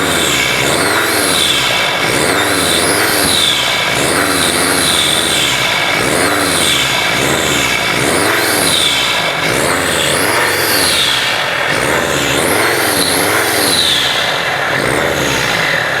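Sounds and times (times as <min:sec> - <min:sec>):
engine revving: 0:00.0 - 0:16.0
turbocharger whistling: 0:00.0 - 0:16.0.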